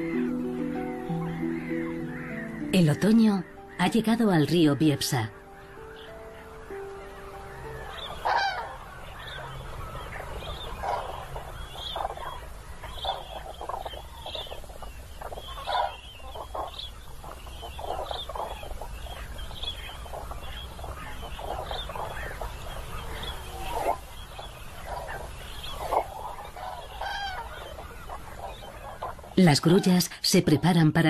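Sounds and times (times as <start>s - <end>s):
cranes trumpeting calls: 0.0s - 30.6s.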